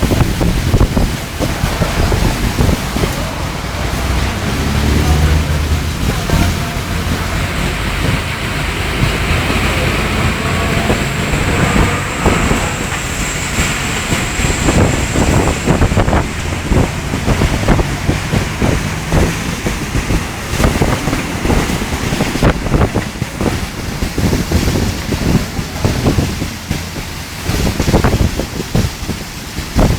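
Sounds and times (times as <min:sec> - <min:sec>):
heavy rain: 0:00.0 - 0:29.9
wind buffeting microphone: 0:00.0 - 0:29.9.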